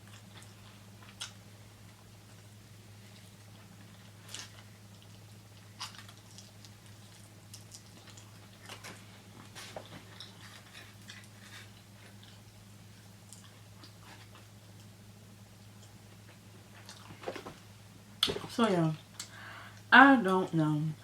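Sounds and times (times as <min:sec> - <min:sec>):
person chewing food: 0:00.0 - 0:15.0, 0:15.6 - 0:17.5
steady low hum: 0:00.0 - 0:21.0.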